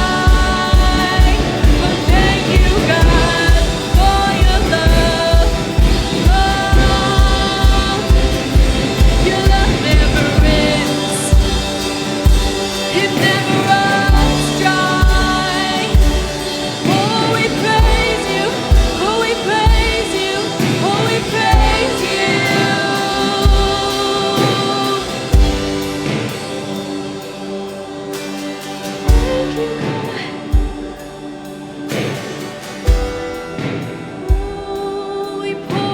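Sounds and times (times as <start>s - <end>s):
voices singing: 0.0s - 35.9s
worship band playing: 0.0s - 35.9s.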